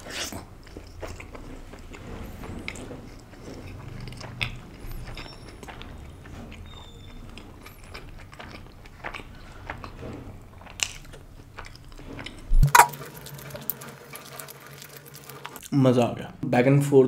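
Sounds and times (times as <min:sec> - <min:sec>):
person chewing food: 0:00.0 - 0:15.8.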